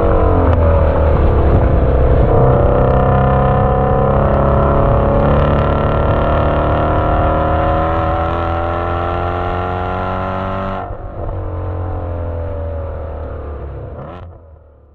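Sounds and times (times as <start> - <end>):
car engine exhaust note: 0.0 - 14.9.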